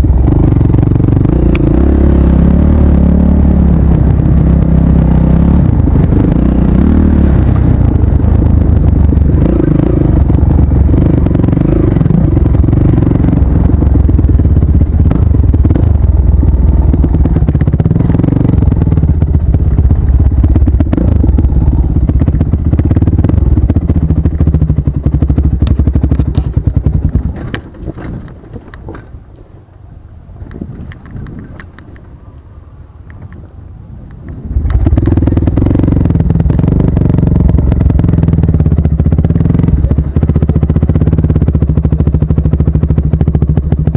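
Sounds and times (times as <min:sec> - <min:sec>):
motorcycle engine revving: 0:00.0 - 0:29.1, 0:34.4 - 0:43.9.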